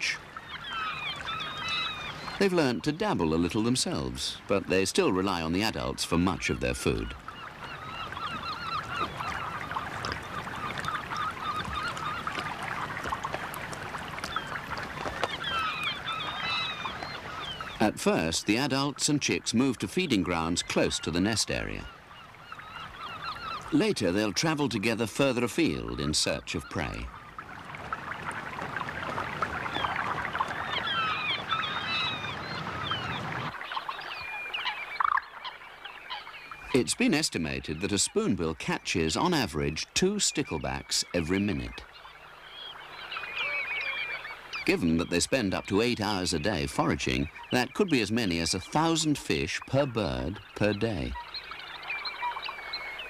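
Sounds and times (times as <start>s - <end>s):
flock of birds chattering: 0.0s - 53.0s.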